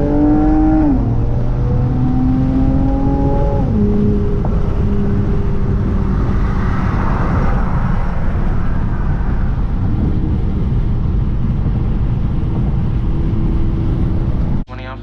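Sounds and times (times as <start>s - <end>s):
car engine running: 0.0s - 14.6s
road rumble: 0.0s - 15.0s
rushing noise: 2.9s - 15.0s.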